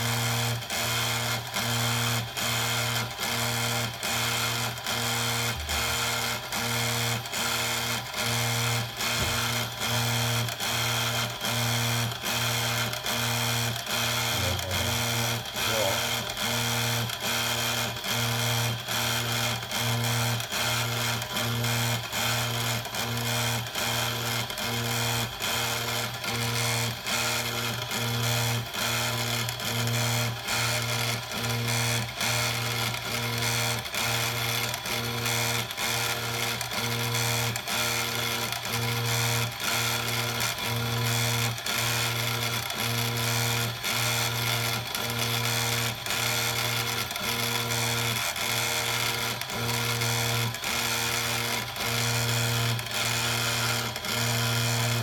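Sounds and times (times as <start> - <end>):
engraving machine electric hum: 0.0 - 55.0.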